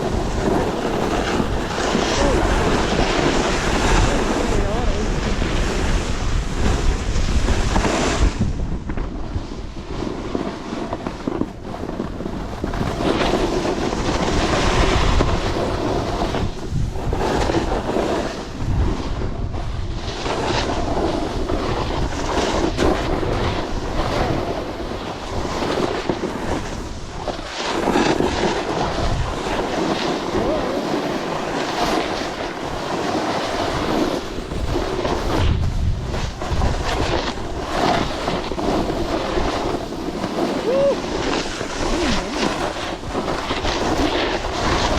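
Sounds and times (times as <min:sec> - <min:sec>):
skis hissing on snow: 0:00.0 - 0:08.4, 0:09.7 - 0:19.1, 0:20.0 - 0:44.9
wind rushing over microphone: 0:00.0 - 0:44.9.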